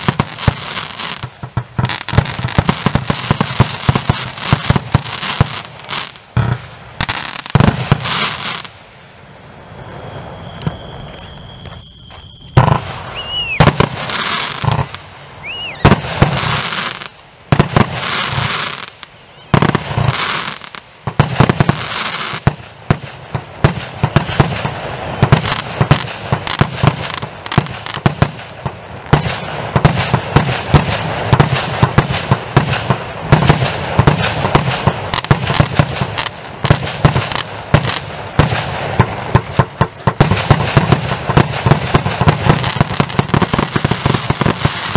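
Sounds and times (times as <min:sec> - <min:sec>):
firework crackling: 0:00.0 - 0:44.9.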